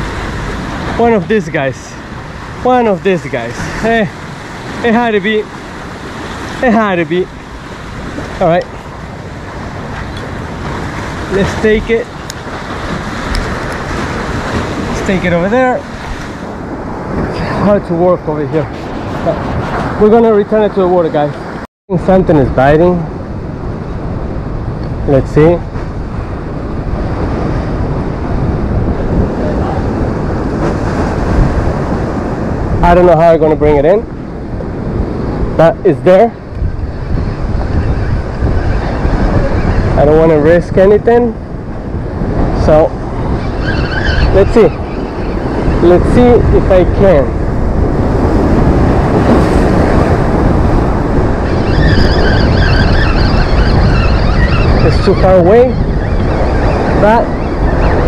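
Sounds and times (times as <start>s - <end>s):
ocean surf washing against rocks: 0.0s - 21.6s, 22.2s - 58.0s
wind on microphone: 0.0s - 58.0s.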